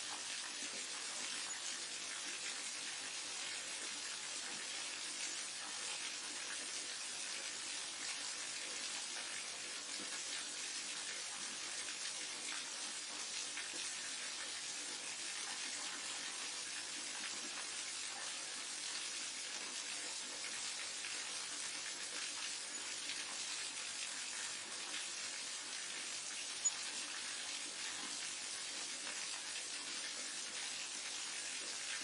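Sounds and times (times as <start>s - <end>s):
waterfall pouring into stream: 0.0s - 32.0s.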